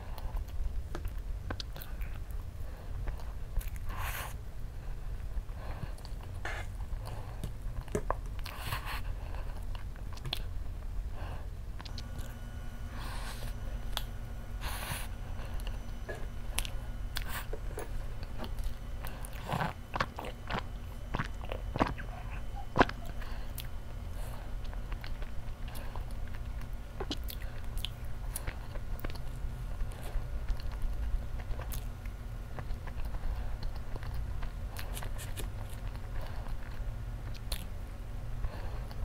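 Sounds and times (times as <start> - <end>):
chewing soft cake: 0.0 - 39.0
low steady hum: 0.0 - 39.0.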